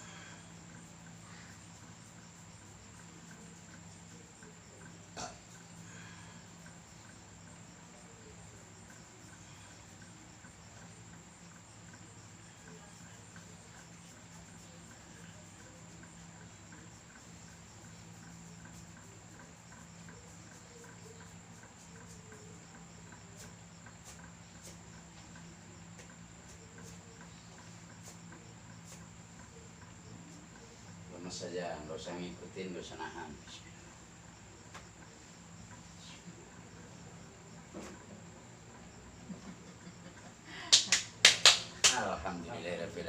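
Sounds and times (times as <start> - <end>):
high-pitched insect trill: 0.0 - 43.0.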